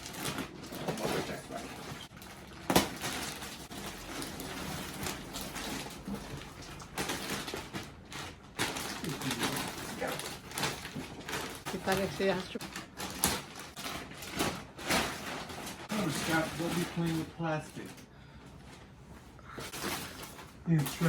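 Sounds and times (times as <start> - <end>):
plastic packaging crinkling: 0.0 - 18.0, 19.6 - 21.0.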